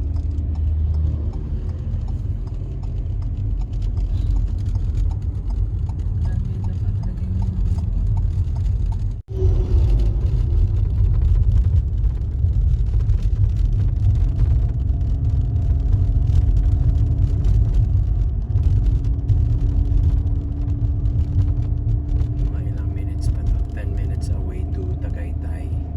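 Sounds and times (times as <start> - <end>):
car road and engine rumble: 0.0 - 25.9.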